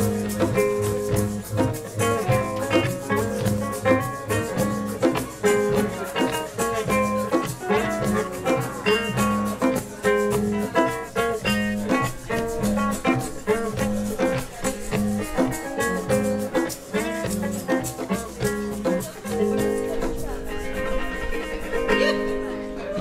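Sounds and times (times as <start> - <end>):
drums: 0.0 - 23.0
guitar: 0.0 - 23.0
shaker: 0.0 - 23.0.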